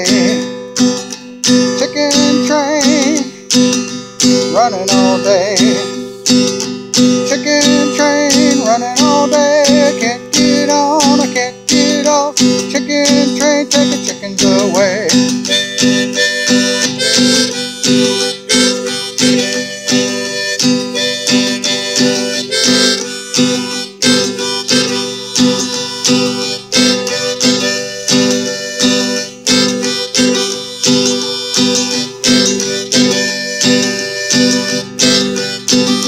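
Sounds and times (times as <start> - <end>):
harmonica playing: 0.0 - 36.0
strummed acoustic guitar: 0.0 - 36.0.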